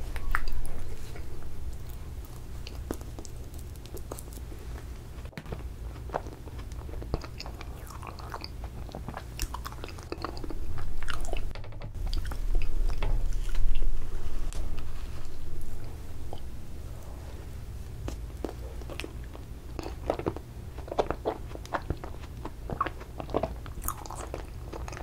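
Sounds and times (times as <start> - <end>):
wet chewing sounds: 0.0 - 13.9, 17.9 - 25.0.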